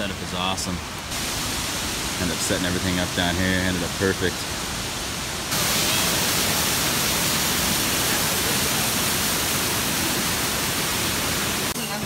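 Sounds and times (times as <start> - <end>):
water rushing over cascade: 0.0 - 12.0.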